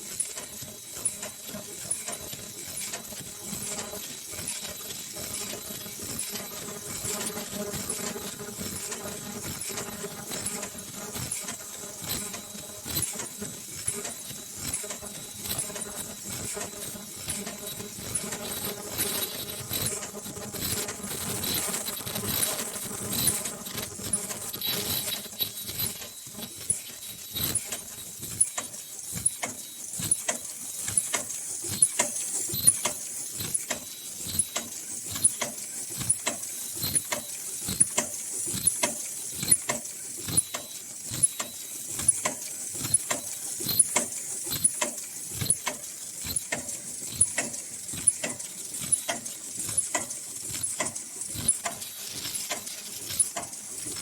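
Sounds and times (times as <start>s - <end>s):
machine clacking rhythmically: 0.0s - 54.0s.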